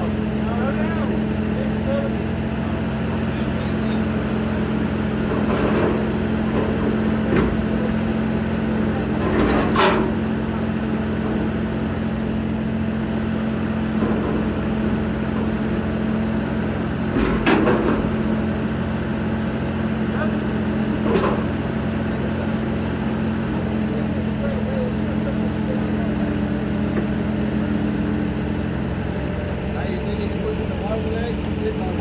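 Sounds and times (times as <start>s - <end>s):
motor running steadily: 0.0s - 32.0s.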